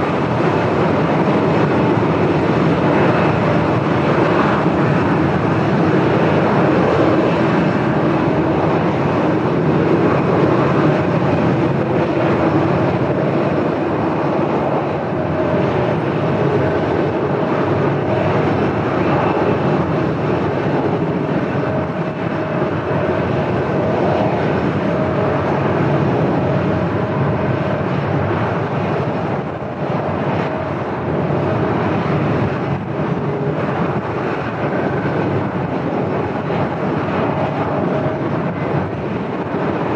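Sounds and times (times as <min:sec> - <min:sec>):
airliner engines running: 0:00.0 - 0:39.9
gusty wind noise: 0:00.0 - 0:39.9.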